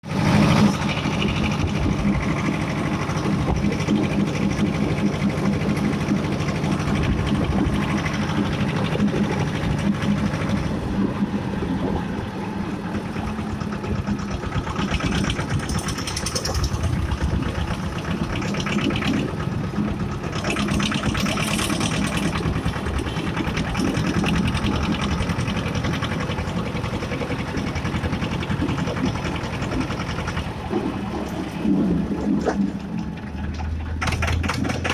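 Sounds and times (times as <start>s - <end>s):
tractor diesel engine chugging: 0.0s - 34.9s.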